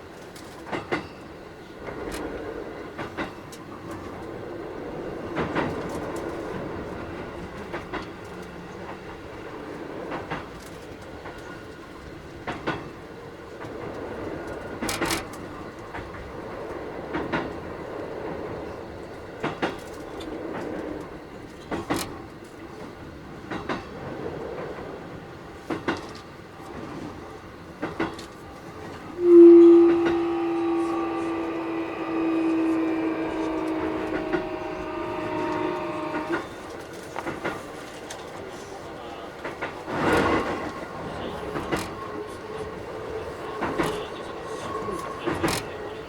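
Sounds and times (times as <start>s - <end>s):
electric train rumbling: 0.0s - 46.0s
wheels clacking over rail joints: 0.0s - 46.0s.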